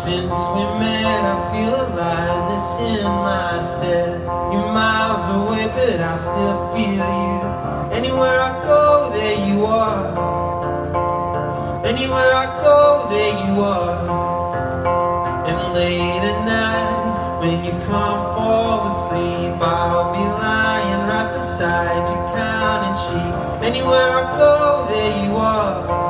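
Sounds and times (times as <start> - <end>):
man singing: 0.0 - 10.6, 11.6 - 26.0
strummed acoustic guitar: 0.0 - 26.0.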